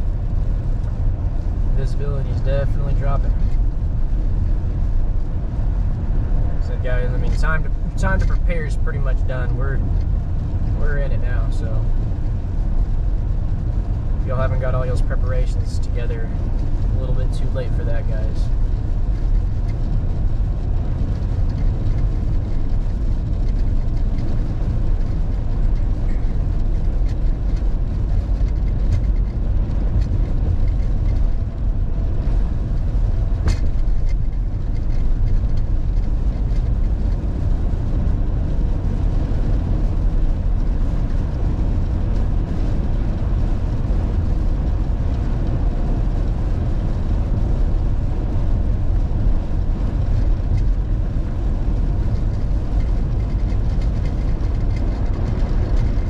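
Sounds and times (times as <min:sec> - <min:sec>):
vehicle road rumble: 0:00.0 - 0:56.0.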